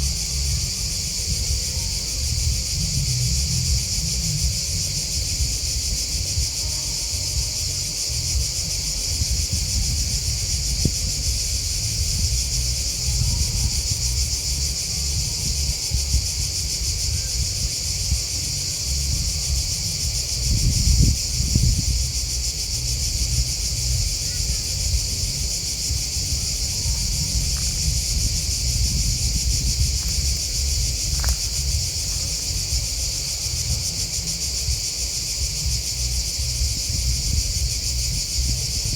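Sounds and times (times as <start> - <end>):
low rumble: 0.0 - 6.5, 7.1 - 38.9
crickets and grasshoppers chirping: 0.0 - 38.9.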